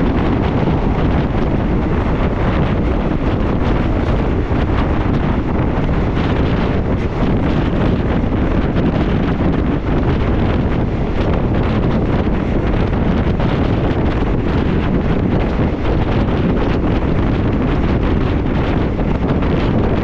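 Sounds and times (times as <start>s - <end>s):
train running noise: 0.0s - 20.0s
wind rushing over microphone: 0.0s - 20.0s.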